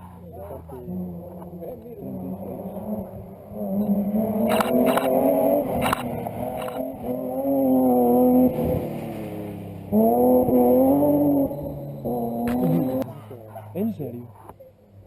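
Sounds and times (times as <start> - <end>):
rally car engine under hard throttle: 0.0 - 15.0.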